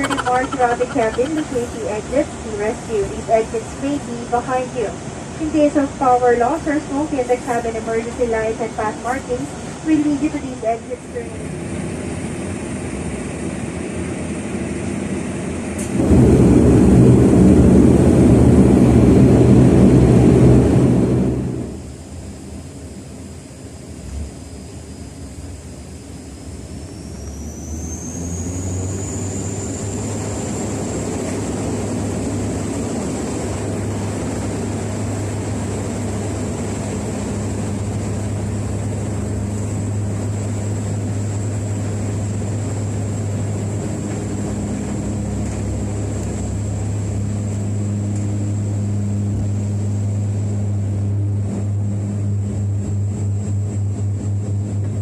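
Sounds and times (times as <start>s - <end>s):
jet engine rumble: 0.0s - 55.0s
jet engine whine: 0.0s - 55.0s.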